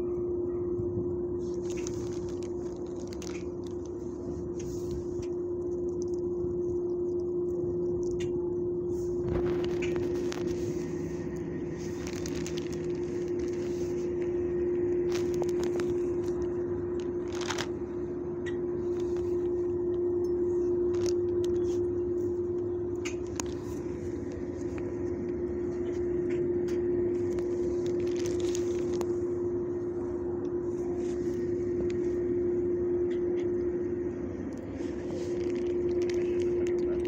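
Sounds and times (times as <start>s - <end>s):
steady mechanical drone: 0.0s - 37.0s.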